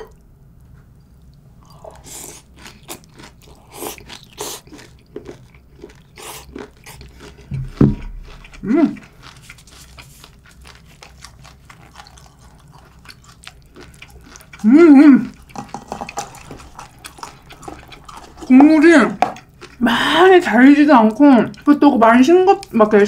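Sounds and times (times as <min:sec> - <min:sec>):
chewing and crunching food: 0:00.9 - 0:23.0.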